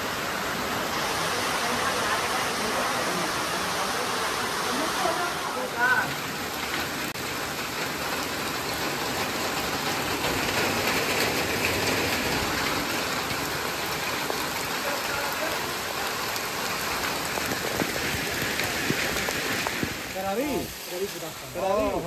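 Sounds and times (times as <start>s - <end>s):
heavy rain on water and rock: 0.0s - 22.0s.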